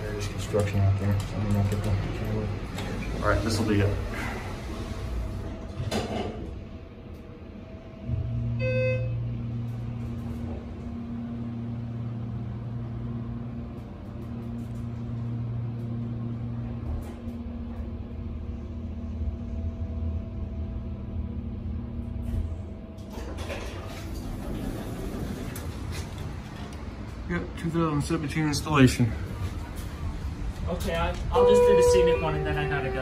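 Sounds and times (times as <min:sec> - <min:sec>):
elevator pump motor humming: 0:00.0 - 0:28.0, 0:29.1 - 0:33.0.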